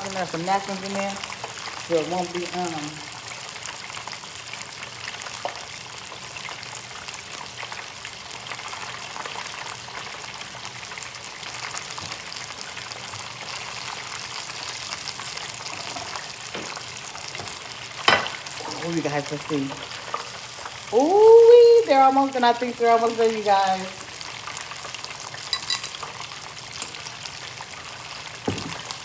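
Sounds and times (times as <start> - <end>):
shrimp deep-frying in oil: 0.0 - 29.0.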